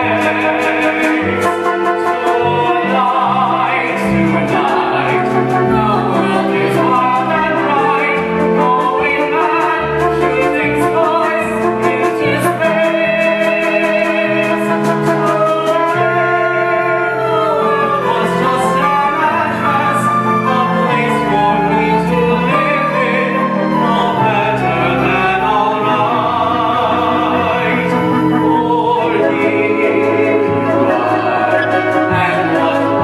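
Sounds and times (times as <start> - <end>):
instrumental accompaniment: 0.0 - 33.0
man and woman singing duet: 0.0 - 33.0.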